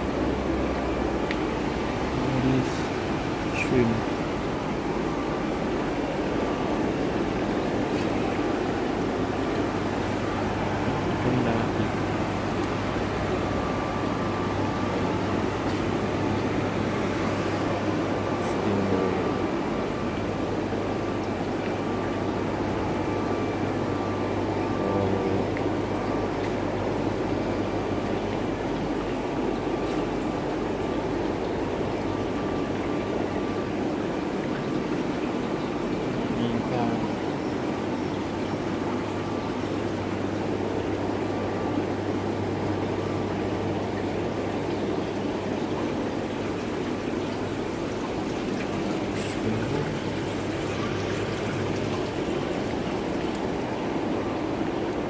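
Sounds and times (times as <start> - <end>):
aquarium water bubbling: 0.0 - 55.0
faint steady whine: 0.0 - 55.0.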